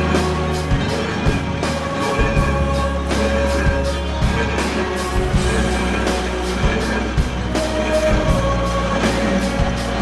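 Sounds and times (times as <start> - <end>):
song with deep bass beats: 0.0 - 10.0.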